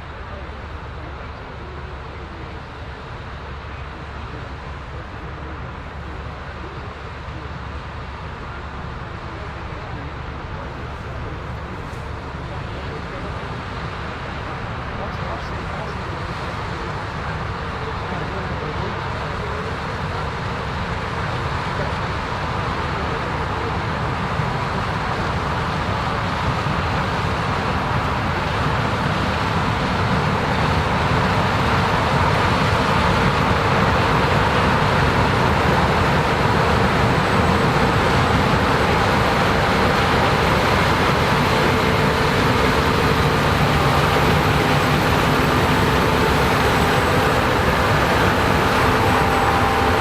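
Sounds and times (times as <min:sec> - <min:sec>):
combine harvester droning: 0:00.0 - 0:50.0.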